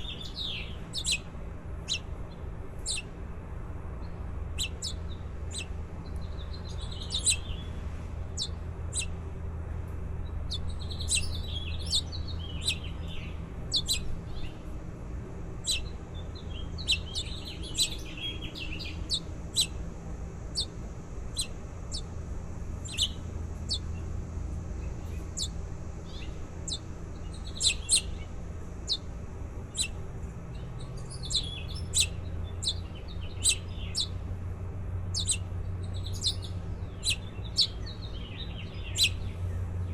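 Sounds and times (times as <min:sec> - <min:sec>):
baby birds chirping: 0:00.0 - 0:09.2, 0:10.2 - 0:14.8, 0:15.5 - 0:39.9
steady low hum: 0:00.0 - 0:39.9.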